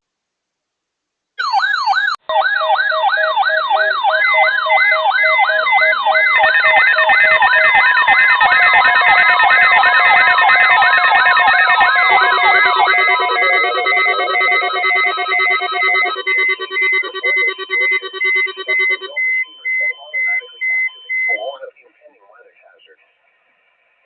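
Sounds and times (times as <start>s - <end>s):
beeping tones: 1.4s - 21.9s
weather alert radio alarms: 1.4s - 22.8s.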